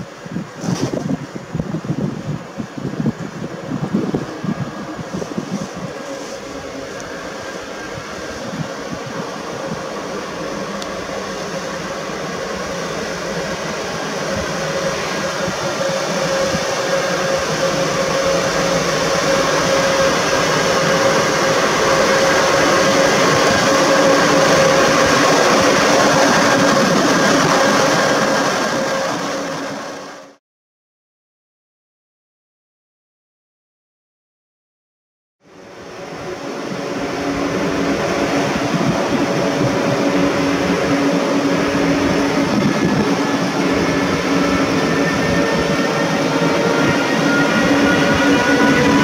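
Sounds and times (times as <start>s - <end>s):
electric locomotive hum: 0.0s - 30.4s, 35.4s - 49.0s
train wheels rumbling on rails: 0.0s - 30.4s, 35.5s - 49.0s.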